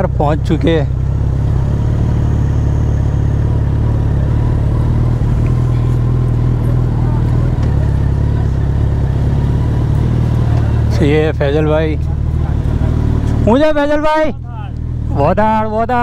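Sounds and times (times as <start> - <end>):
motorcycle engine running at low revs: 0.0 - 16.0.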